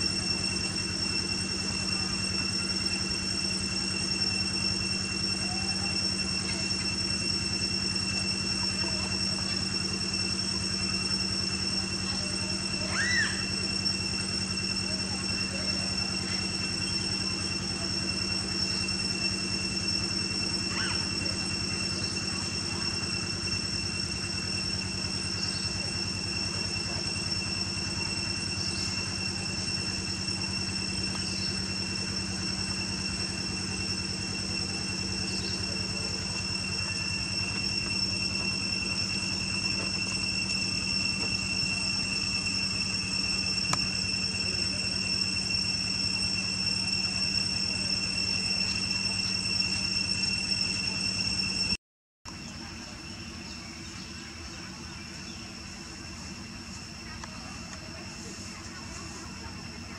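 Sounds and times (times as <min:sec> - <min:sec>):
high-pitched insect drone: 0:00.0 - 0:59.9
low hum: 0:00.0 - 0:59.9.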